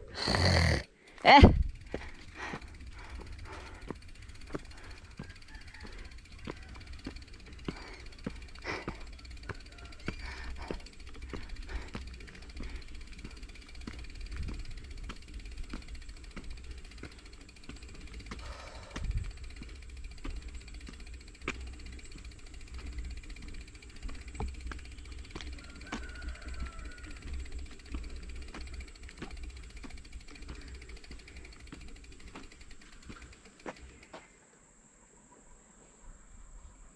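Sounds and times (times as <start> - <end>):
bicycle rattling on concrete: 0.0 - 34.2.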